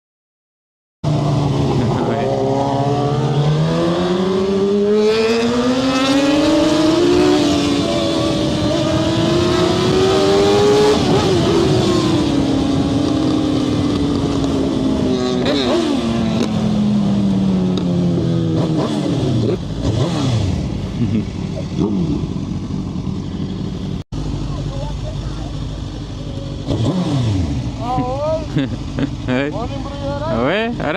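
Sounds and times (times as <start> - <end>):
motorcycle engine revving: 1.0 - 30.9.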